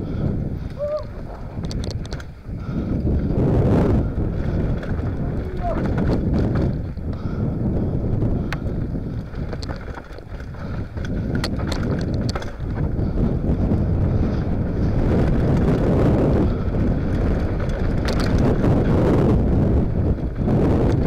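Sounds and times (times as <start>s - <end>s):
bike clicks and rattles: 0.0s - 21.0s
wind buffeting microphone: 0.0s - 21.0s
tyres rumbling on dirt: 0.3s - 21.0s.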